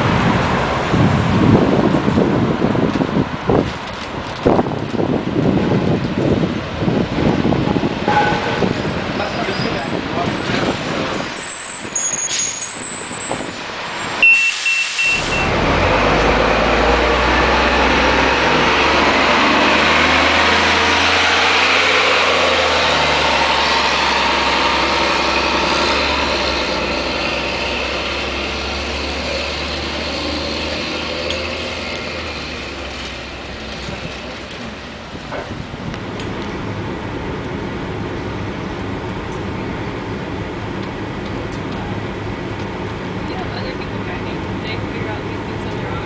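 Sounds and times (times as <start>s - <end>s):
bus diesel engine accelerating: 0.0s - 46.0s.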